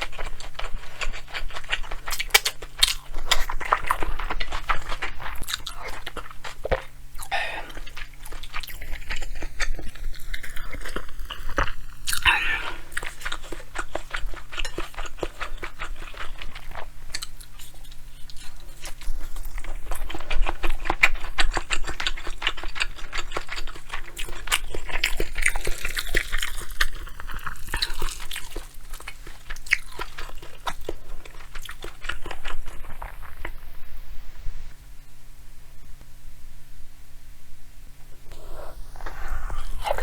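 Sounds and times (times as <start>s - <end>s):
chewing and crunching food: 0.0s - 34.8s, 38.2s - 40.0s
faint steady hum: 0.0s - 40.0s.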